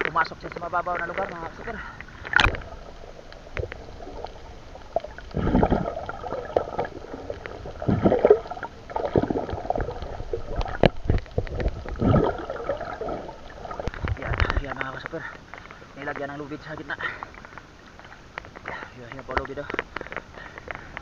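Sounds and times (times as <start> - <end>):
muffled underwater gurgling: 0.0 - 21.0.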